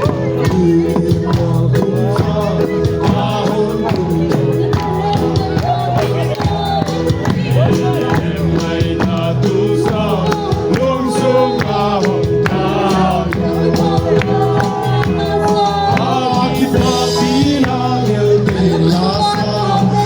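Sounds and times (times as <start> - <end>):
group singing: 0.0 - 20.0
percussive beat: 0.0 - 20.0.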